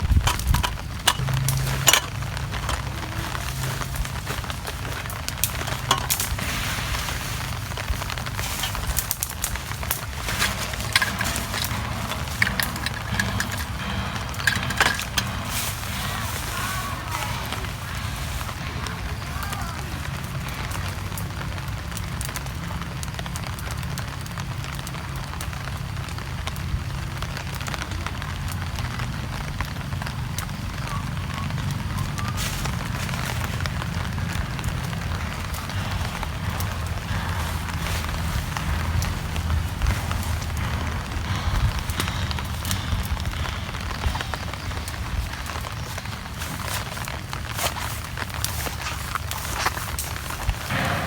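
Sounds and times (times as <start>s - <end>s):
low rumble: 0.0s - 47.6s, 48.2s - 51.0s
drips: 0.0s - 51.0s
fire crackling: 0.0s - 51.0s
meat sizzling over fire: 0.0s - 51.0s
steady rain: 0.0s - 51.0s.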